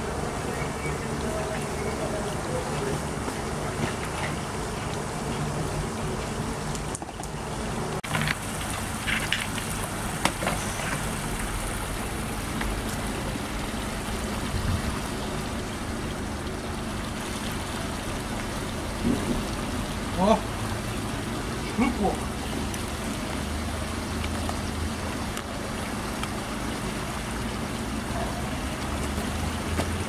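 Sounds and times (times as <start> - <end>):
water trickling and gurgling: 0.0 - 30.0.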